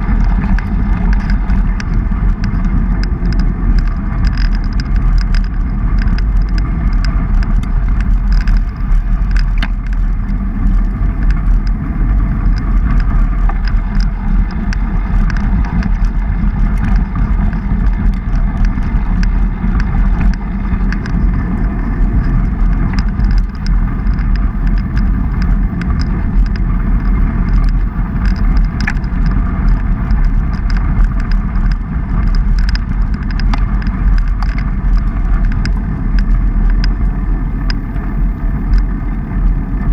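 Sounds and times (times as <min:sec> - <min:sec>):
bike tyres rolling on gravel: 0:00.0 - 0:39.9
small clicks and rattles: 0:00.0 - 0:39.9
wind buffeting microphone: 0:00.0 - 0:39.9.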